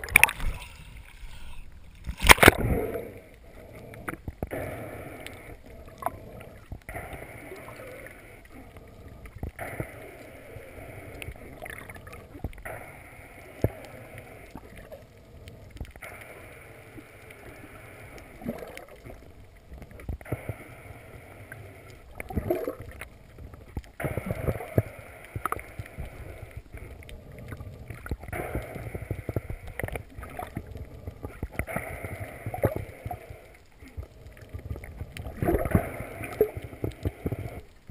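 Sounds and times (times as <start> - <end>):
underwater swishing and gurgling: 0.0 - 37.9.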